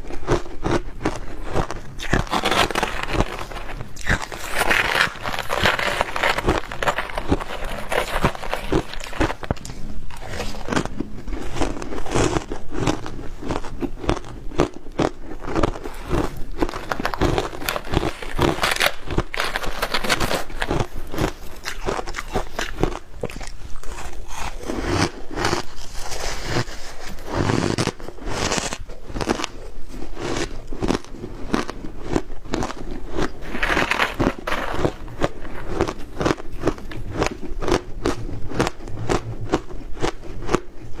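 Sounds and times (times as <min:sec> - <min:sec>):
crunching and chewing ice: 0:00.0 - 0:41.0.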